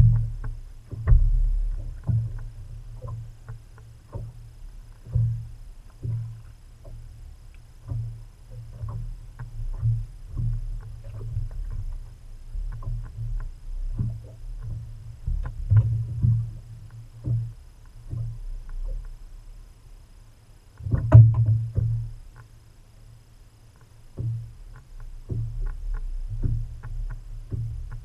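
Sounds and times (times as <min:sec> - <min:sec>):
knocks and clatters on boat deck: 0:00.0 - 0:19.2, 0:20.8 - 0:22.5, 0:23.8 - 0:28.0
water lapping against boat hull: 0:00.0 - 0:28.0.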